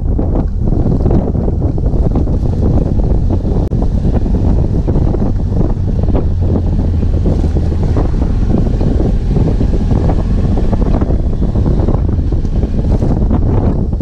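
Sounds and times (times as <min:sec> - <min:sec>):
motorcycle engine droning: 0:00.0 - 0:14.0
tyres rumbling on dirt: 0:00.0 - 0:14.0
wind buffeting microphone: 0:00.0 - 0:14.0.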